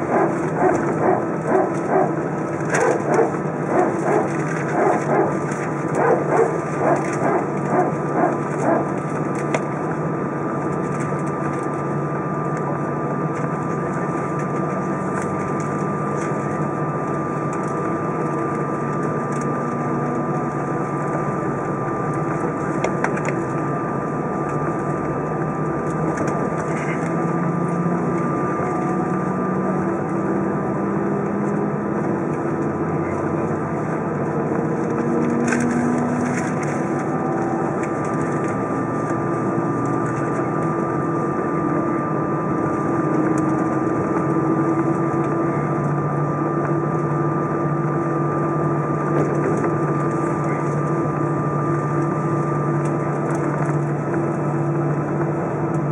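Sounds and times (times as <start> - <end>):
aircraft engine hum: 0.0 - 55.9
steady high whine: 0.0 - 55.9.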